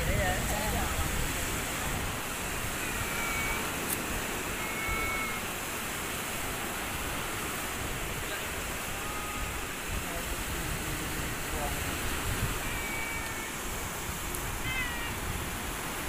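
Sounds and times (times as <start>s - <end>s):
surf rushing on beach: 0.0s - 16.0s.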